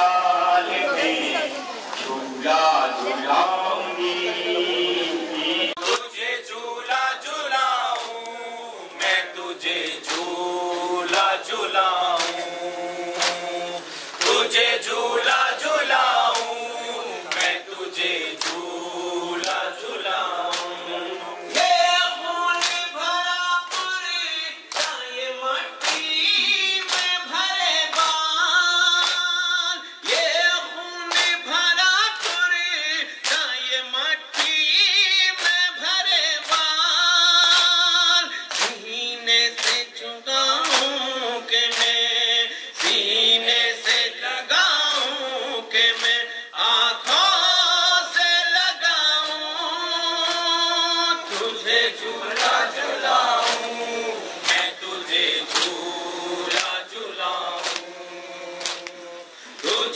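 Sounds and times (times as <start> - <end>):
chorus of voices singing a lament: 0.0 - 59.9
rhythmic chest-beating slaps: 5.8 - 59.9.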